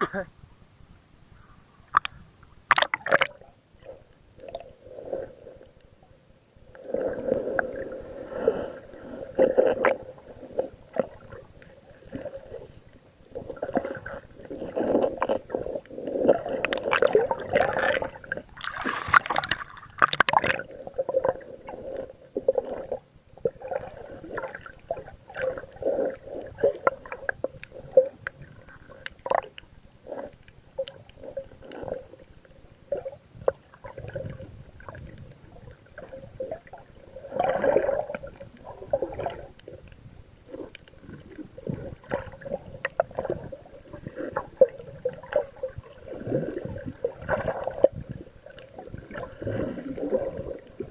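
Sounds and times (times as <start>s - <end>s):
muffled underwater gurgling sloshes: 1.3s - 50.9s.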